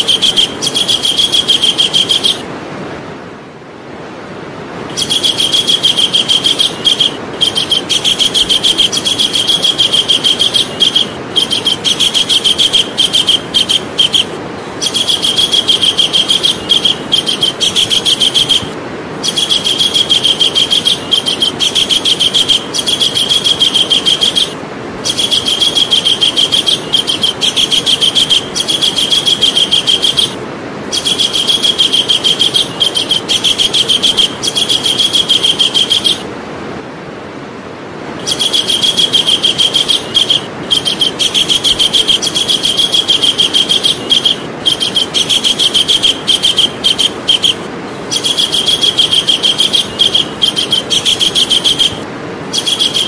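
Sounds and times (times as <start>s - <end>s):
kingfisher calling: 0.0s - 2.5s, 4.9s - 36.3s, 38.2s - 53.0s.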